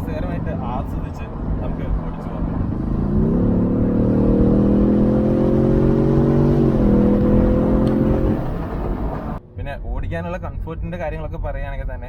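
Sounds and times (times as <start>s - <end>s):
car engine accelerating: 0.0s - 9.9s
road rumble: 0.0s - 11.4s
wind: 0.0s - 12.0s.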